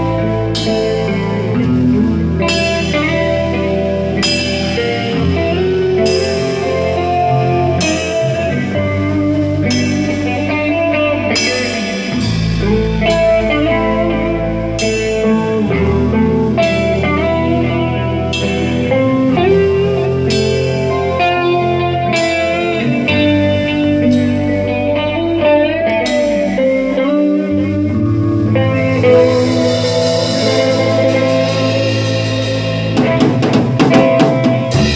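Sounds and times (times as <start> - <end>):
bass and drums: 0.0 - 34.9
blues-rock electric guitar: 0.0 - 34.9.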